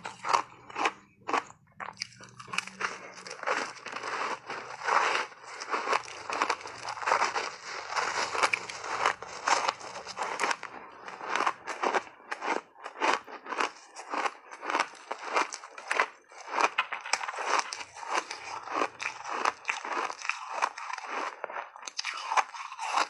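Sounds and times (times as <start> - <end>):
ice being bitten and chewed: 0.0 - 23.0.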